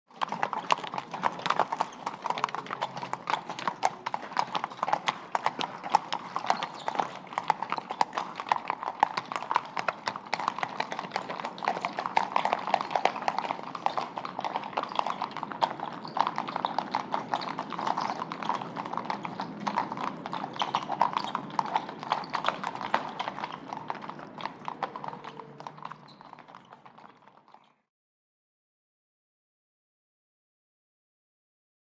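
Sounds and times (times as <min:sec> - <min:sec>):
hooves clip-clopping on hard surface: 0:00.1 - 0:27.8
cart rolling: 0:00.2 - 0:27.8.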